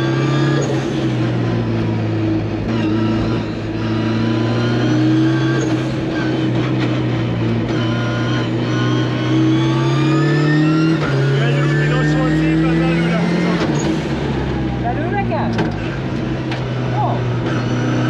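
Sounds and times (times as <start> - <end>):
car engine from inside cabin: 0.0 - 18.0.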